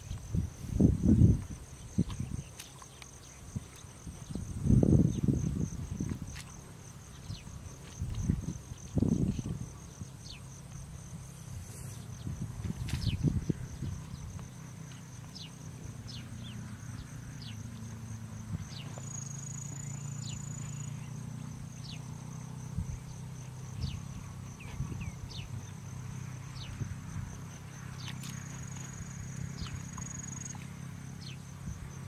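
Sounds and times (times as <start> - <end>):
insects trilling: 0.0 - 32.0
steady low hum: 0.0 - 32.0.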